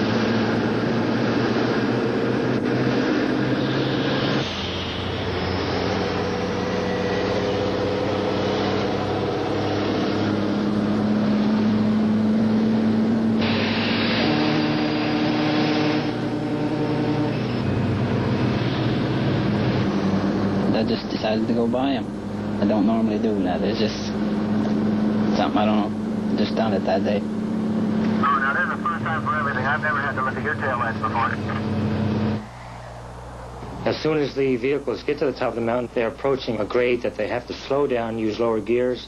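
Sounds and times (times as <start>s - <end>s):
diesel truck engines running: 0.0s - 39.0s.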